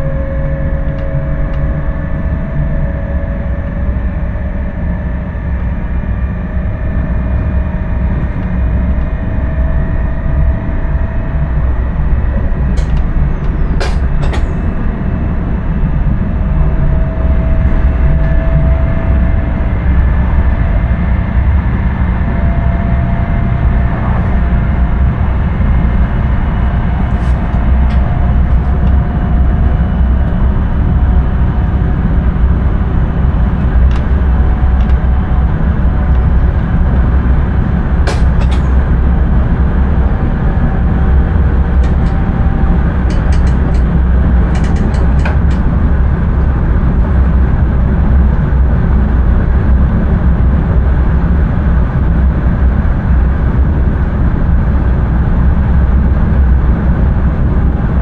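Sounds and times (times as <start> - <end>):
train running with low rumble: 0.0 - 58.0.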